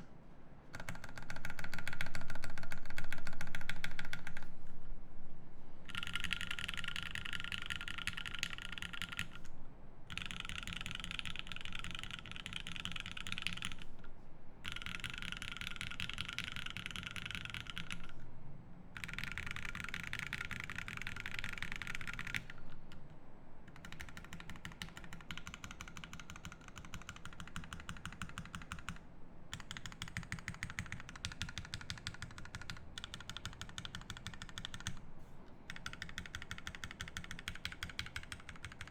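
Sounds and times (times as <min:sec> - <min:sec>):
mechanical keyboard typing: 0:00.7 - 0:04.5, 0:05.9 - 0:09.5, 0:10.1 - 0:13.9, 0:14.6 - 0:18.2, 0:19.0 - 0:22.6, 0:23.7 - 0:35.0, 0:35.7 - 0:38.9.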